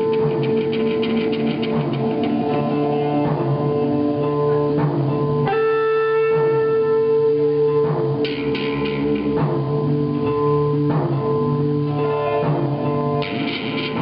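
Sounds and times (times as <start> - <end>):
guitar plucked notes and chords: 0.0 - 14.0.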